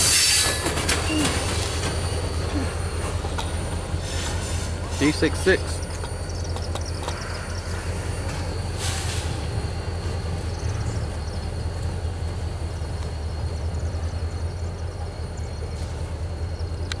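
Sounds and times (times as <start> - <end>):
train cars rumbling over rails: 0.0 - 17.0.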